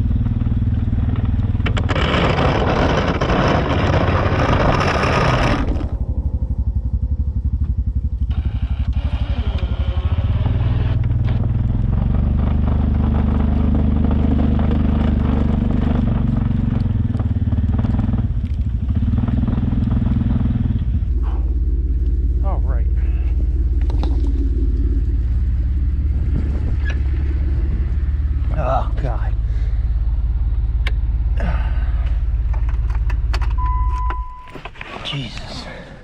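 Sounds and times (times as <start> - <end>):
engine rumbling: 0.0 - 36.0.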